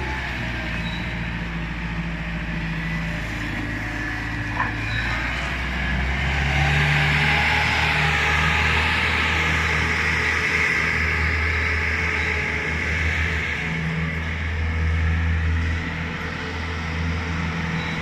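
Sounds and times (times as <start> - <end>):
loader engine running: 0.0 - 18.0.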